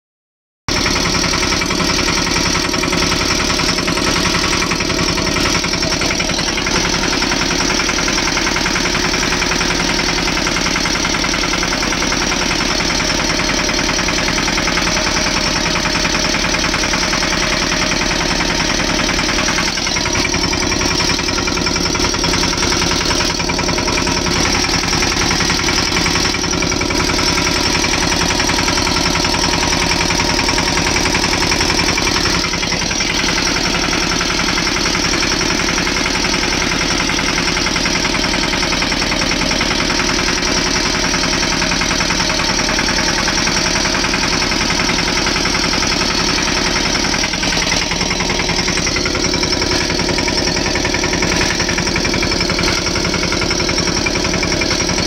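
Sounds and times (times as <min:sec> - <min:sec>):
tractor diesel engine running: 0:00.7 - 0:55.0.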